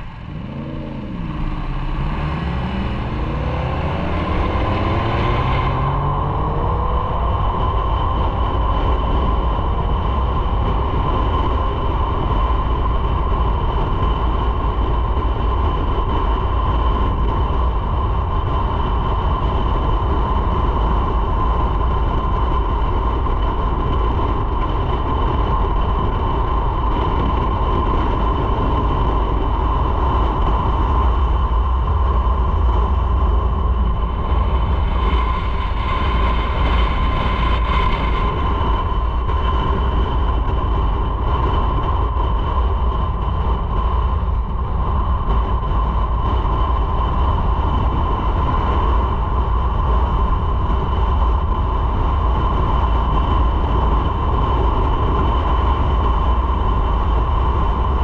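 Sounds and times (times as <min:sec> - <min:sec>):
motorcycle engine drone: 0:00.0 - 0:58.0
road rumble: 0:00.0 - 0:58.0
wind: 0:00.0 - 0:58.0.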